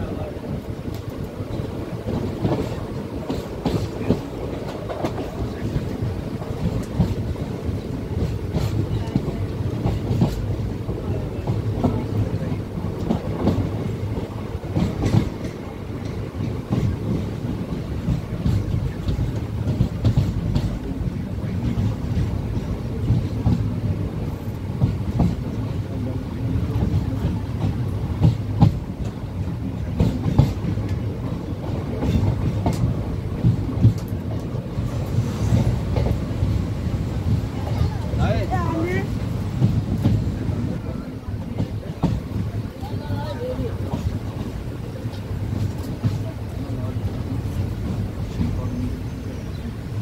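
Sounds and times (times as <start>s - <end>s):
train rumbling on rails: 0.0s - 50.0s.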